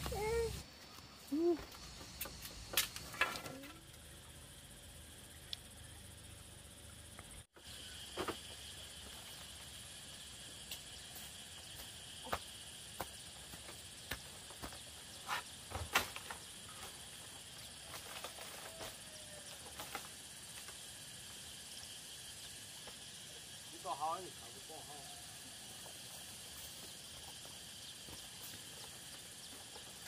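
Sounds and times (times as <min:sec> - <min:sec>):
high-pitched insect drone: 0:00.0 - 0:30.0.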